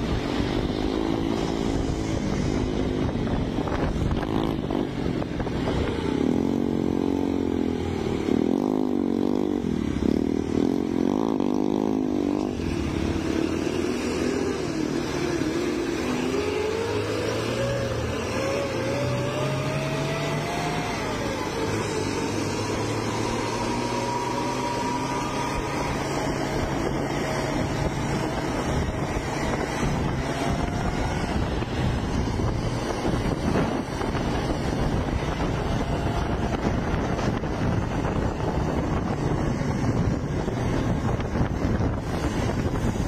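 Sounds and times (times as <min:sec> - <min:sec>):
road and wind noise: 0:00.0 - 0:43.0.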